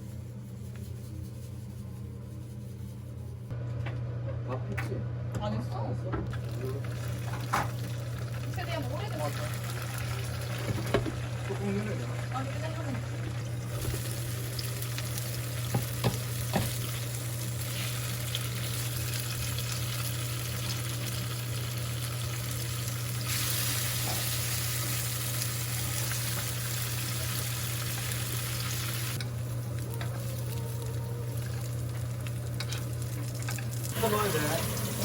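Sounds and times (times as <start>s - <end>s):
food sizzling in a frying pan: 6.4s - 35.0s.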